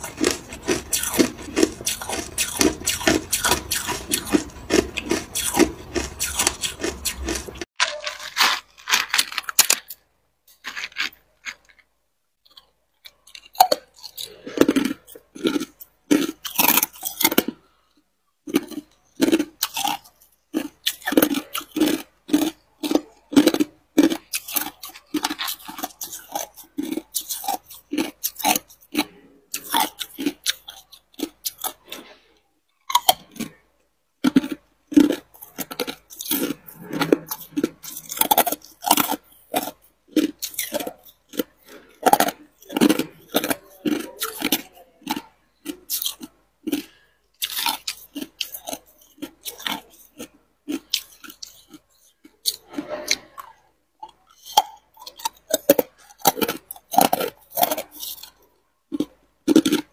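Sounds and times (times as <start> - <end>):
ice being crunched and chewed: 0.0 - 33.6, 34.2 - 59.9.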